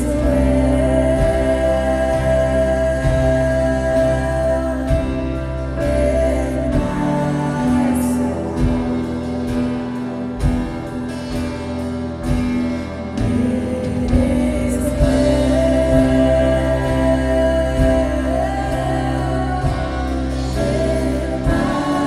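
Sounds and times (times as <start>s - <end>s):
bass: 0.0s - 22.0s
guitar chords: 0.0s - 22.0s
keyboard chords: 0.0s - 22.0s.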